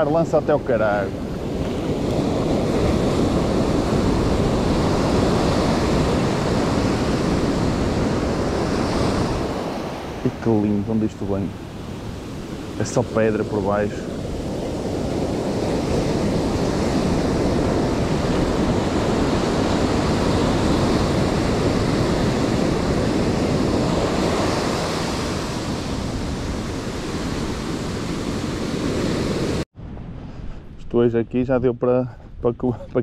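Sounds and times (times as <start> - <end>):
surf breaking on rocky shore: 0.0 - 29.6
wind noise on microphone: 0.0 - 33.0.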